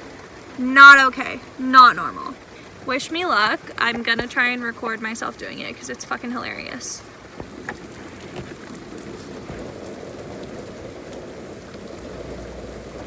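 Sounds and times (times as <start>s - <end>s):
heavy rain on a car roof: 0.0s - 13.0s.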